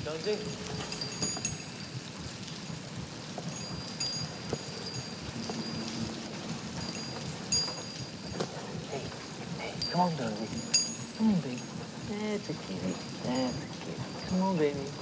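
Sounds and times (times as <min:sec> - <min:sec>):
dripping rain-like hiss: 0:00.0 - 0:15.0
high metallic chimes: 0:00.0 - 0:15.0.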